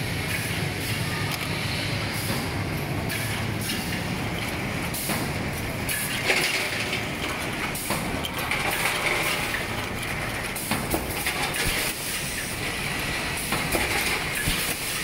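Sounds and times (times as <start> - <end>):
machine mechanical din: 0.2 - 15.0.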